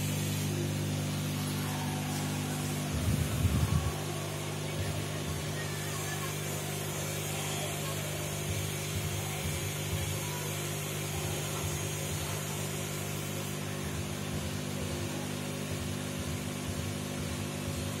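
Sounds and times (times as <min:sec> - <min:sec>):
aerator hum: 0:00.0 - 0:18.0.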